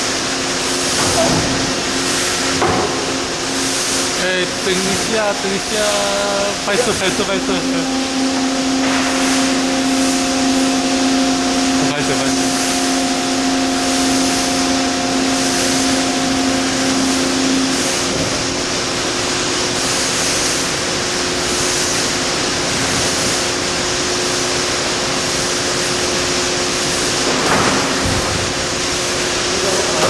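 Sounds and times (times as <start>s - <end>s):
machinery hiss: 0.0s - 30.0s
steady machine hums: 0.0s - 30.0s.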